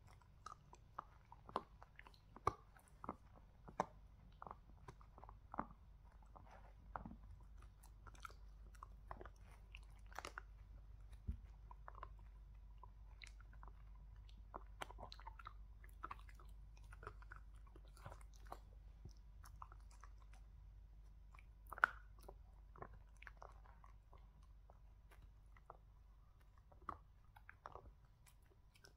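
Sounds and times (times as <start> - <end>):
dog chewing a treat: 0.0 - 28.9.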